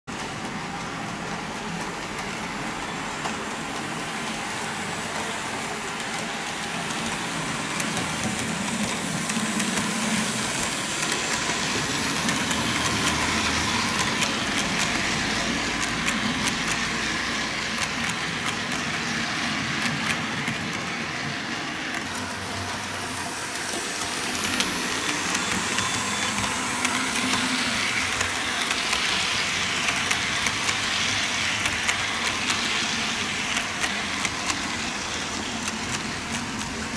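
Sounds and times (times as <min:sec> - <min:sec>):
model train whirring: 0:00.1 - 0:36.9
wheels clicking on rails: 0:00.1 - 0:36.9.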